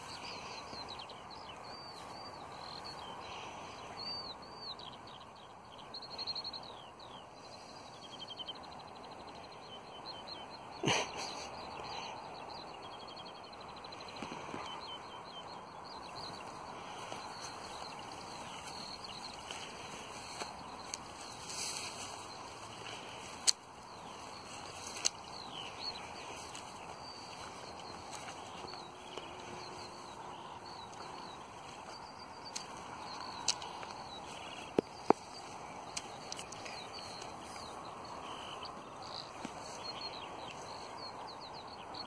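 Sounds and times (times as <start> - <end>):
songbirds chirping and trilling: 0.0 - 42.0
steady outdoor hiss: 0.0 - 42.0.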